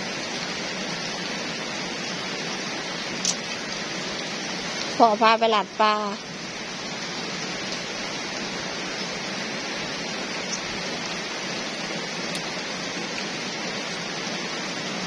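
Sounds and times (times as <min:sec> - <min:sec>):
rain falling on puddles: 0:00.0 - 0:15.0.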